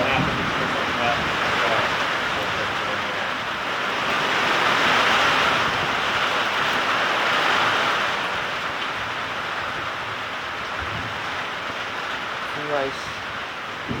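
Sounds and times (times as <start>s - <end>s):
heavy rain downpour: 0.0s - 14.0s.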